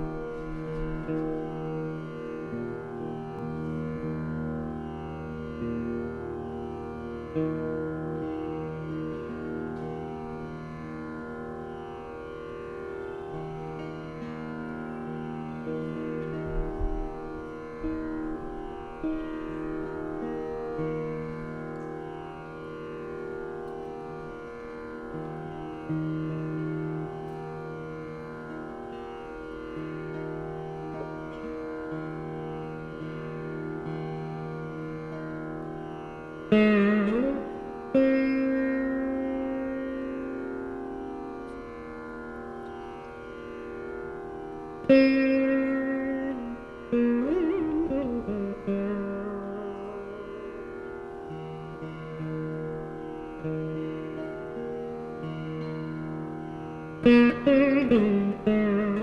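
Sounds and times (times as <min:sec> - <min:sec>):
veena playing slow melody: 0:00.0 - 0:59.0.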